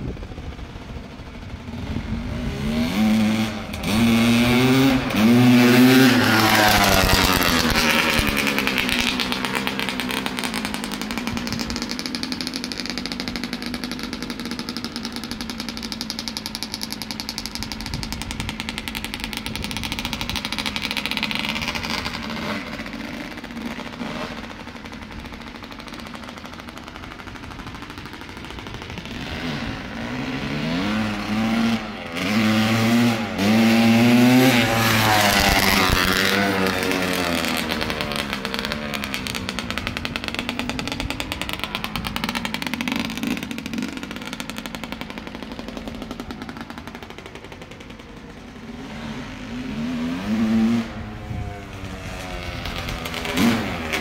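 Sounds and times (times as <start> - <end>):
motocross bike revving: 0.0 - 54.0.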